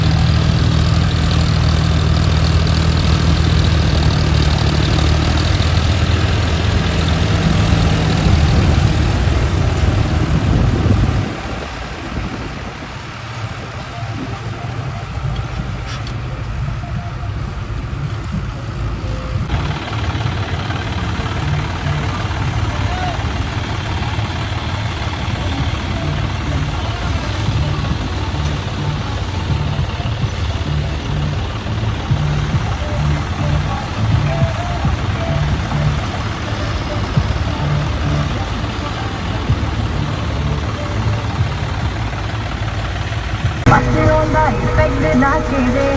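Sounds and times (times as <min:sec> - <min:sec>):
tractor diesel engines running: 0:00.0 - 0:45.9.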